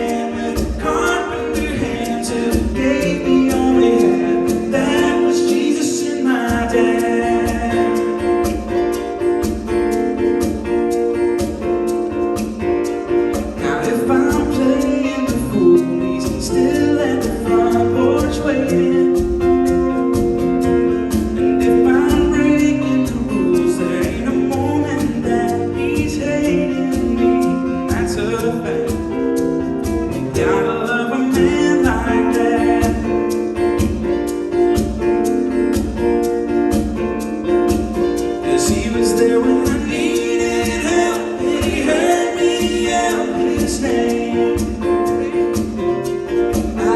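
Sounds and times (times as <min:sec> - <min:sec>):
live country-gospel band with guitar: 0:00.0 - 0:46.9.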